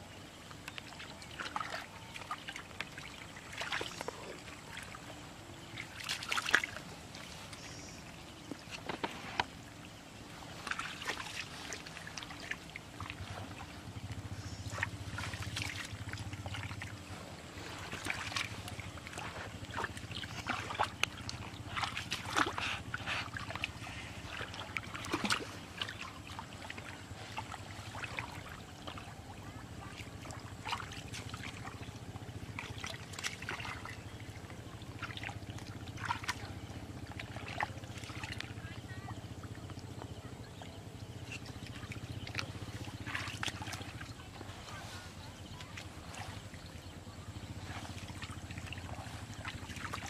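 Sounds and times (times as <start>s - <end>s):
low steady hum: 0.0s - 50.0s
sloshing in muddy water: 0.0s - 50.0s.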